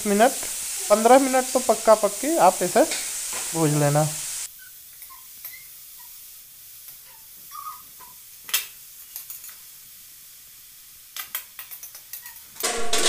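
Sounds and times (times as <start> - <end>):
carrots sizzling in a pan: 0.0 - 13.0.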